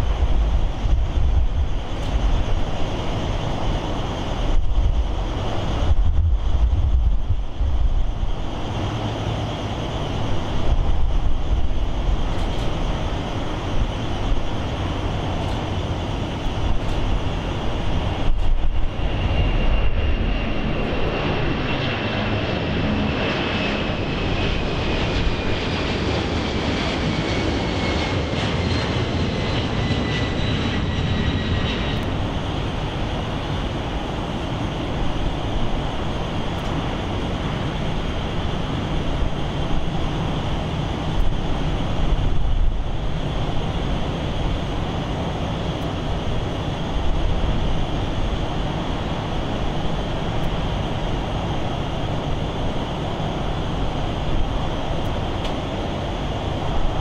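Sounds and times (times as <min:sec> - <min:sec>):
jet engine whine taxiing: 0:00.0 - 0:57.0
jet engines climbing after takeoff: 0:00.0 - 0:57.0.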